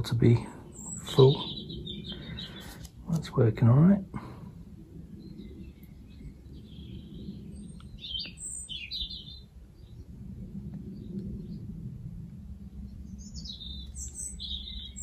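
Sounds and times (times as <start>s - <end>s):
small birds chirping: 0.0s - 3.6s, 4.2s - 11.9s, 12.6s - 15.0s
low background rumble: 0.0s - 15.0s.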